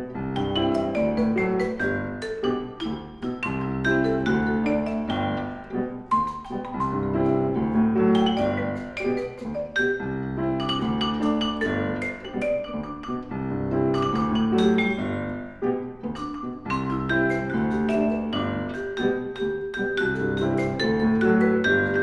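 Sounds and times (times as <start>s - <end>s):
piano: 0.0s - 22.0s
vibraphone notes: 0.0s - 22.0s.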